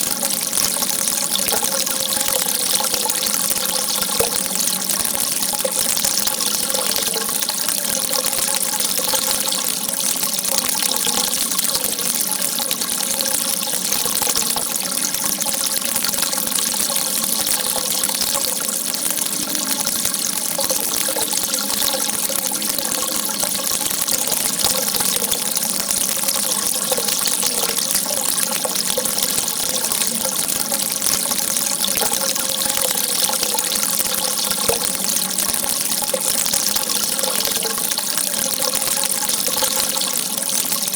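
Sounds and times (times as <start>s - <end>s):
running water hissing: 0.0s - 40.9s.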